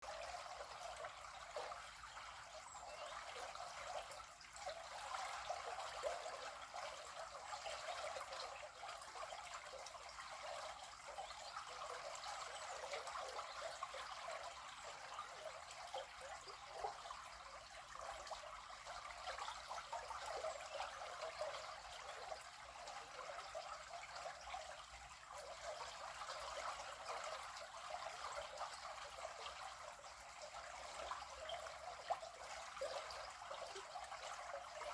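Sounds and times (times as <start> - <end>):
river water babbling: 0.0 - 34.9.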